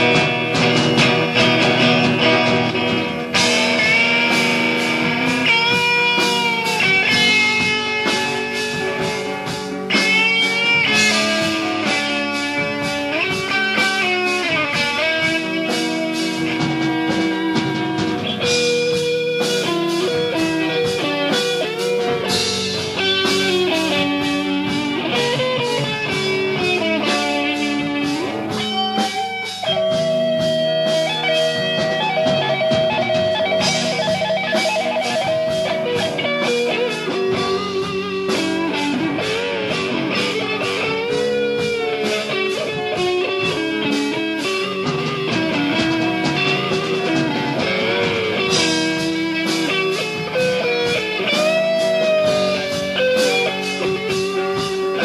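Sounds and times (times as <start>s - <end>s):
instrumental rock music: 0.0s - 55.0s.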